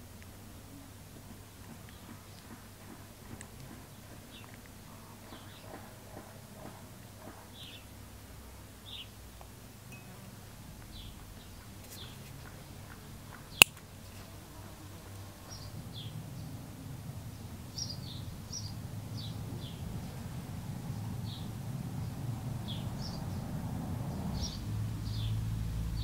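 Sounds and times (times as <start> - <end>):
small birds chirping: 1.6 - 8.0, 8.6 - 26.0.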